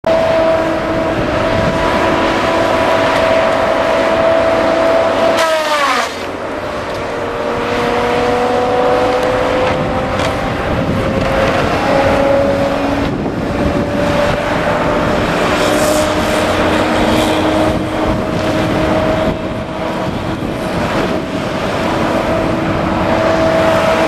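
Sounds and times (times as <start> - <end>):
logging machine hydraulic whine: 0.1 - 24.0.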